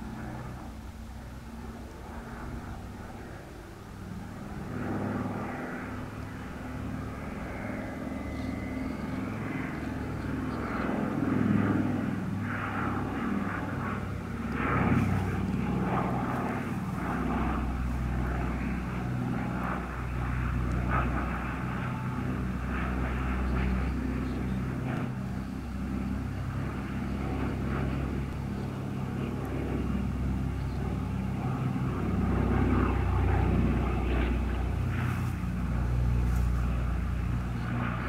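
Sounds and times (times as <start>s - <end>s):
propeller plane engines droning: 0.0s - 38.0s.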